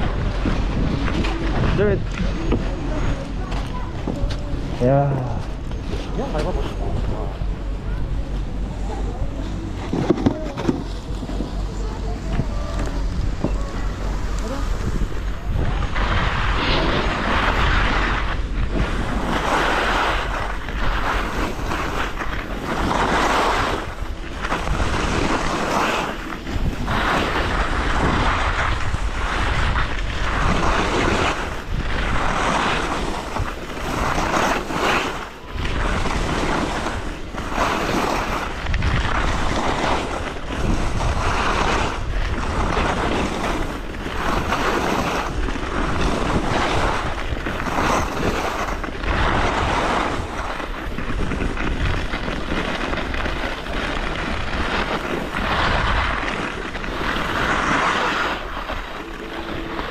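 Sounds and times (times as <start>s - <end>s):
skis carving on snow: 0.0s - 59.9s
wind rumble on microphone: 0.0s - 59.9s.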